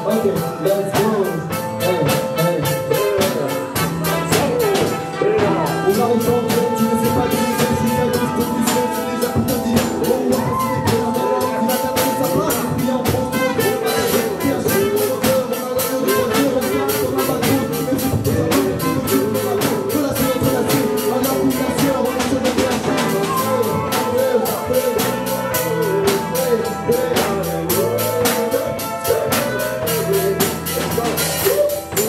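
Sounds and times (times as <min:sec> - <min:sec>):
drum kit beat: 0:00.0 - 0:32.0
trumpets playing: 0:00.0 - 0:32.0.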